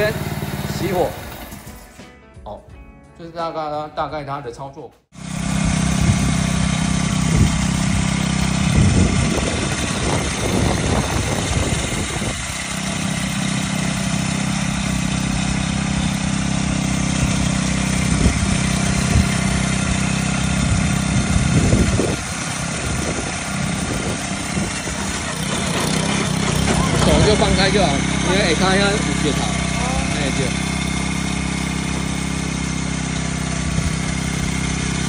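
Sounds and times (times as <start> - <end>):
tiller engine running: 0.0 - 2.1, 5.1 - 35.0.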